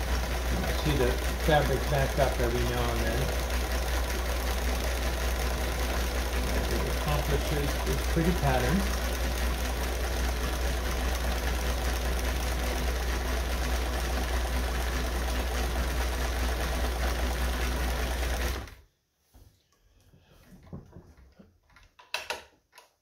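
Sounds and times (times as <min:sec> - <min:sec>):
sewing machine running: 0:00.0 - 0:18.8.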